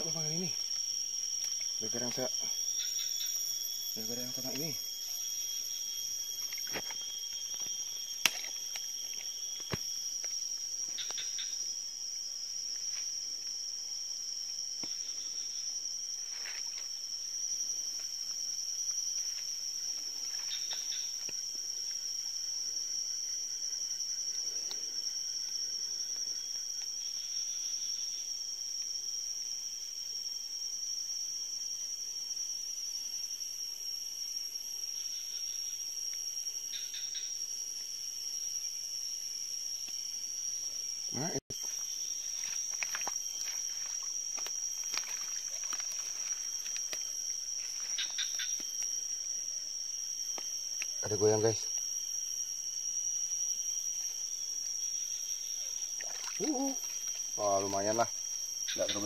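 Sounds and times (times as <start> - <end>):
forest insects chirring: 0.0 - 59.0.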